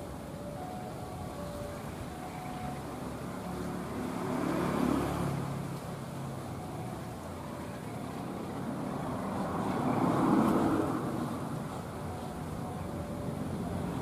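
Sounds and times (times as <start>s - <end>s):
motor vehicles passing by: 0.0s - 14.0s.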